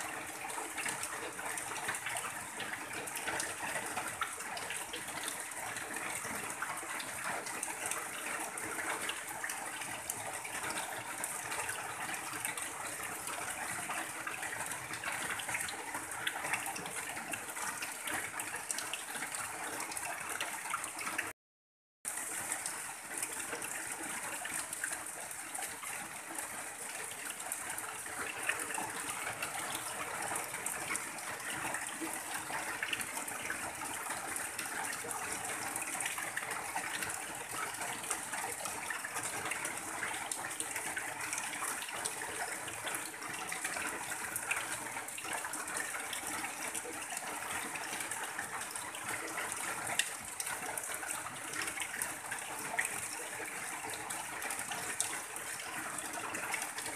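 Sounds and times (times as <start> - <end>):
water pouring off a roof: 0.0 - 21.4, 22.1 - 56.9.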